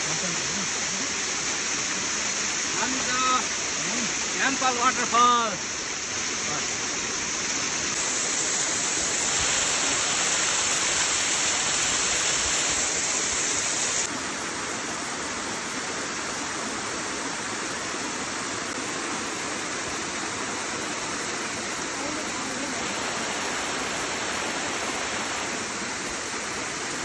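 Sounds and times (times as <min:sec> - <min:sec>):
fast-flowing stream rushing: 0:00.0 - 0:27.0.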